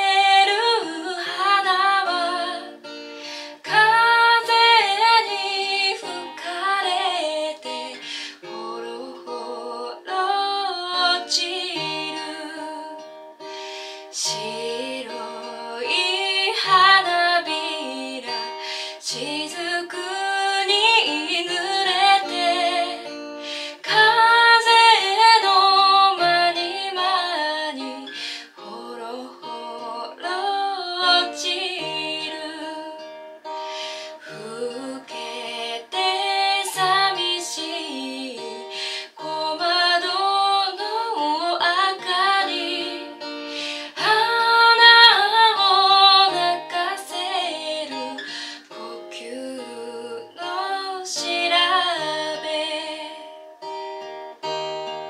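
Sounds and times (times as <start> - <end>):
woman singing slow song: 0.0 - 53.6
acoustic guitar: 0.0 - 55.0.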